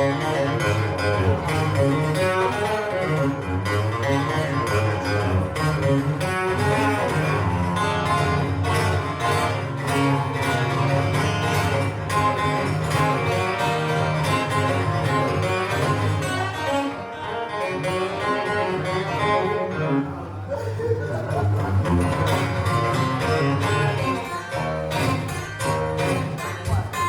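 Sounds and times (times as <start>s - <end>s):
guitar: 0.0s - 27.0s
live band playing: 0.0s - 27.0s.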